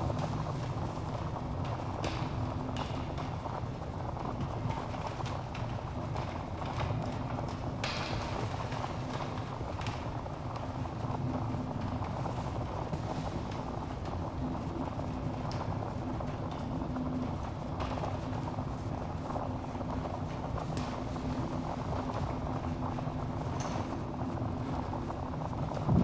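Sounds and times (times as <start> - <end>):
low rumble of flames: 0.0 - 26.0.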